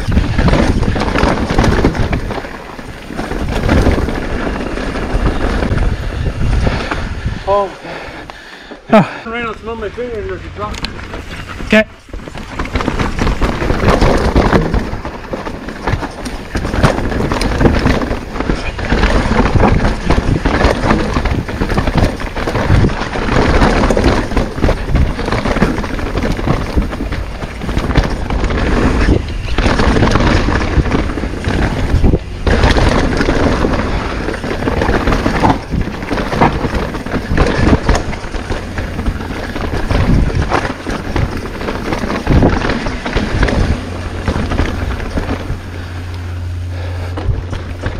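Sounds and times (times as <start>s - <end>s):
wind rushing on microphone: 0.0s - 8.3s, 9.7s - 47.9s
bike clattering over bumps: 0.0s - 47.9s
bike tyres rolling on dirt and rocks: 0.0s - 47.9s.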